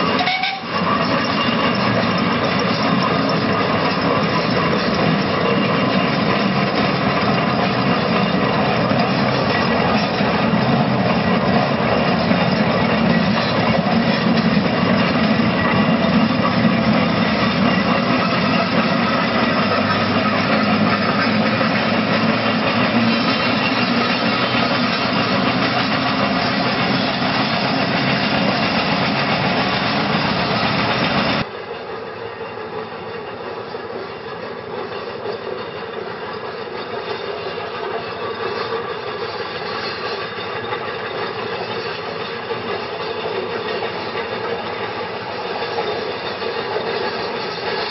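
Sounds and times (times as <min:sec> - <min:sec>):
steam roller running: 0:00.0 - 0:47.9.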